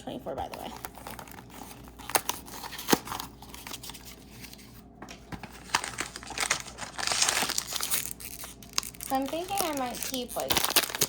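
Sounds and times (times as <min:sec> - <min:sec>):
packaging crinkling and rustling: 0:00.4 - 0:11.0.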